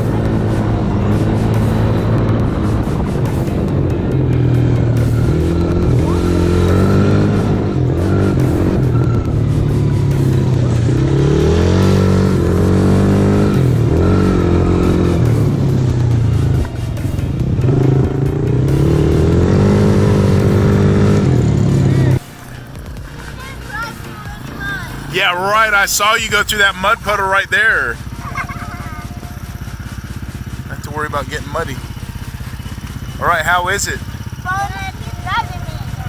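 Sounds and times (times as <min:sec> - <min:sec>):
off-road vehicle engine revving: 0:00.0 - 0:36.0.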